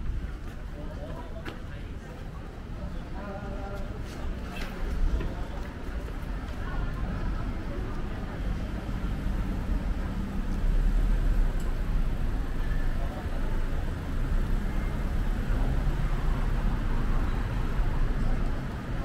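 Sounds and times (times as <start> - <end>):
car creeping along street: 3.6 - 19.0.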